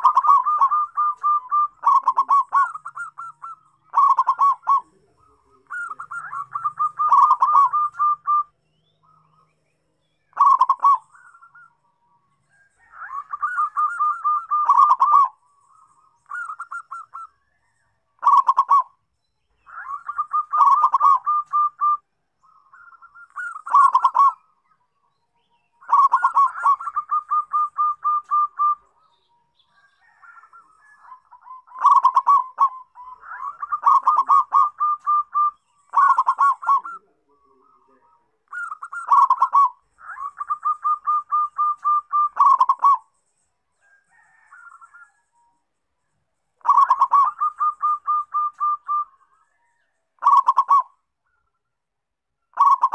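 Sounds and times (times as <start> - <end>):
dove cooing: 0.0 - 9.3, 10.3 - 11.8, 12.5 - 24.5, 25.8 - 43.1, 43.8 - 45.3, 46.6 - 51.1, 52.5 - 52.9.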